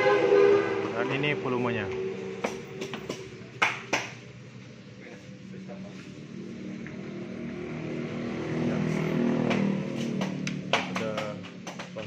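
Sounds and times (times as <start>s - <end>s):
vehicle engine passing by: 0.0s - 3.6s, 5.2s - 11.3s.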